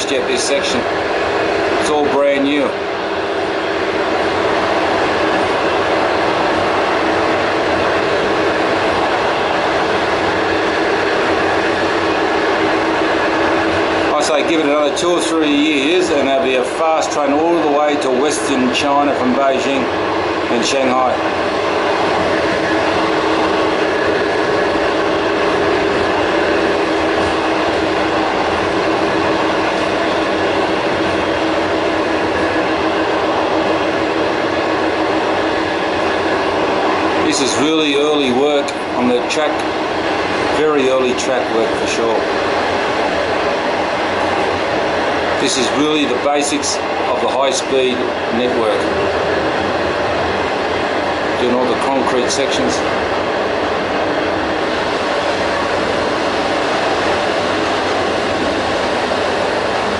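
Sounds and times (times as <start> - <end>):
steady hum: 0.0 - 59.9
train wheels on rails rumbling: 0.0 - 59.9.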